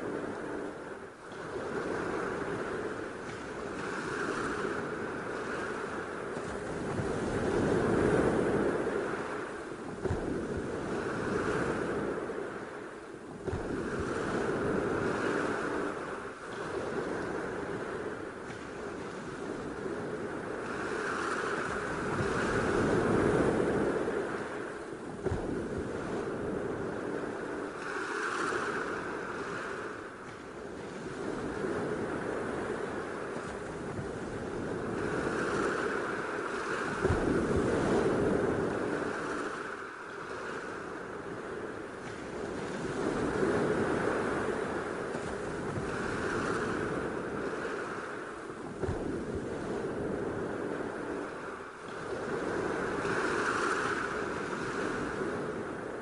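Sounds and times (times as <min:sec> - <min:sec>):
ocean surf breaking: 0:00.0 - 0:56.0
wind: 0:00.0 - 0:56.0.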